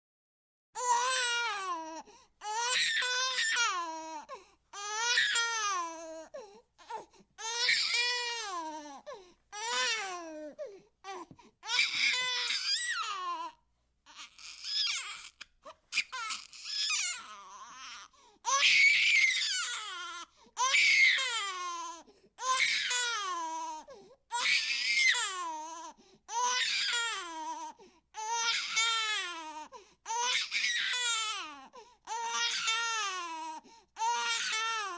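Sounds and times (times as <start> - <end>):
infant crying: 0.8 - 34.9.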